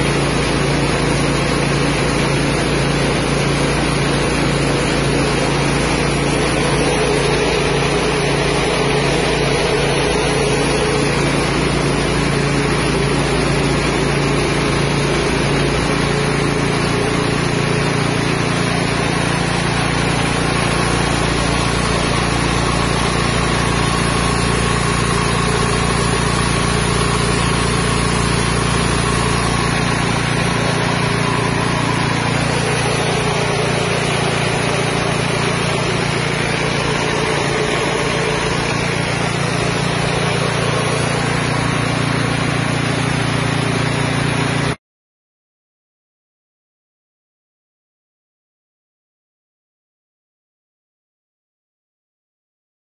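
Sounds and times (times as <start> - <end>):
engine humming: 0.0 - 44.8
rice milling machine whirring: 0.0 - 44.8.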